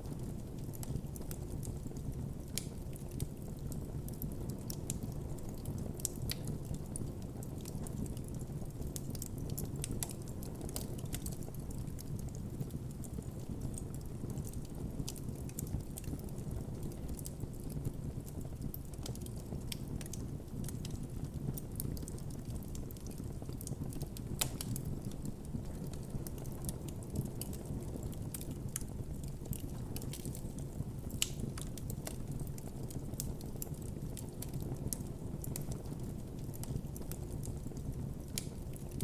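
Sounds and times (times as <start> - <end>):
wood crackling and popping: 0.0 - 39.0
campfire flames rushing: 7.4 - 39.0.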